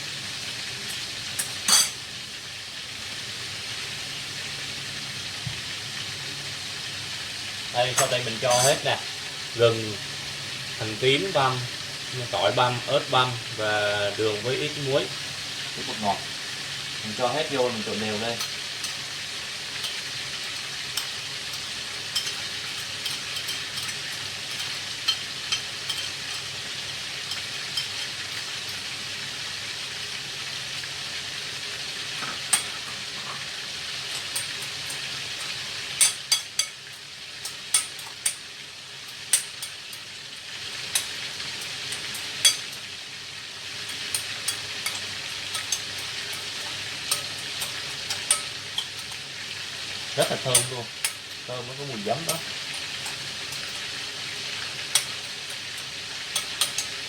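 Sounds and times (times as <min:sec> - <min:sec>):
meat sizzling in hot oil: 0:00.0 - 0:57.0.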